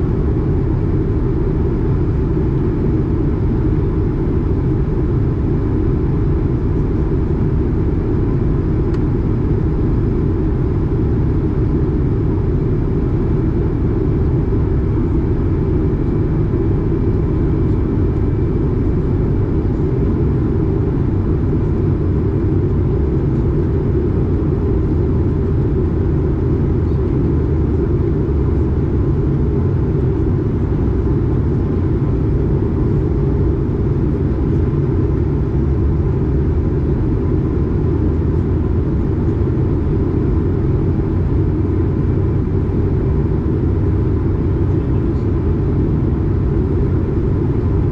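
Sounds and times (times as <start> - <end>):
faint steady whine: 0.0 - 47.9
low rumble of airflow and engines: 0.0 - 47.9.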